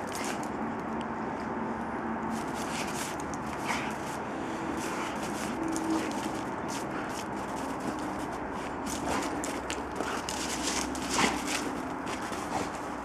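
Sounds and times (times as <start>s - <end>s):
footsteps crunching in snow: 2.2s - 13.0s.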